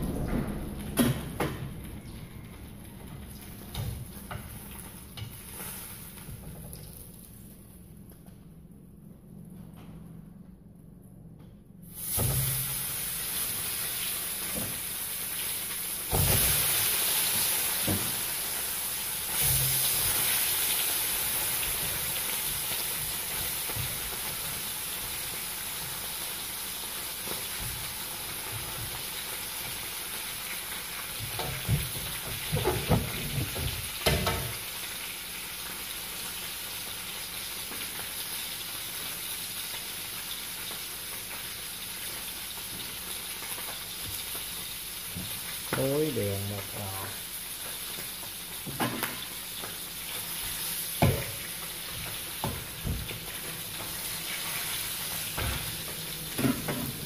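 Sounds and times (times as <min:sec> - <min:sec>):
fish sizzling in hot oil: 0:03.4 - 0:06.9, 0:11.9 - 0:57.0.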